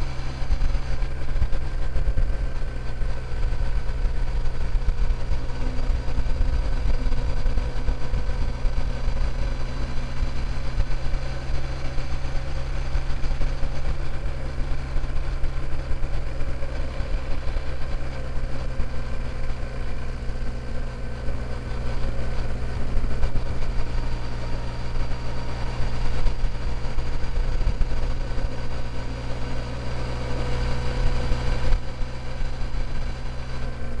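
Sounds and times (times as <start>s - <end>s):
motorcycle engine cruising: 0.0s - 34.0s
wind and road noise: 0.0s - 34.0s.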